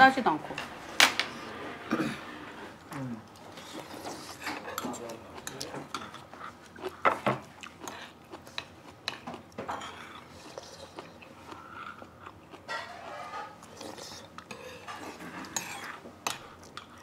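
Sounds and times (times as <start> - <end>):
chewing: 2.9 - 17.0.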